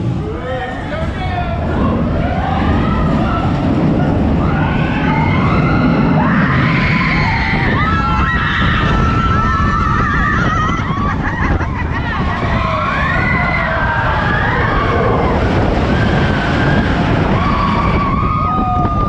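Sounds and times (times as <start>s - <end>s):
roller coaster train on track: 0.0s - 19.0s
wind rumble: 0.0s - 19.0s
riders screaming: 1.7s - 19.0s.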